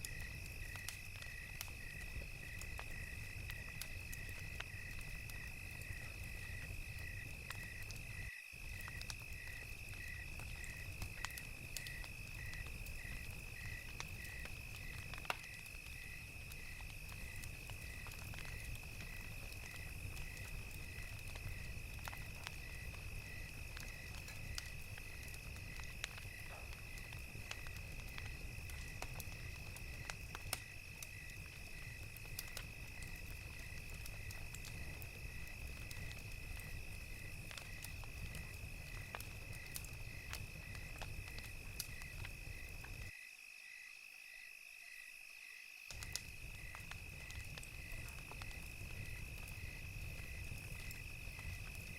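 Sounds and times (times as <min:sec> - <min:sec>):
wood fire crackling and popping: 0:00.0 - 0:43.2, 0:45.9 - 0:51.9
crickets chirping: 0:00.0 - 0:51.9.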